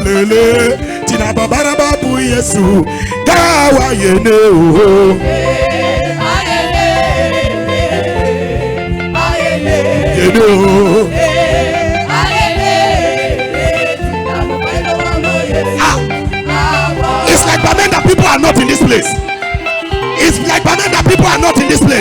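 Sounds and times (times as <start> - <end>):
instrumental backing music: 0.0 - 22.0
person singing a chorus: 2.6 - 22.0.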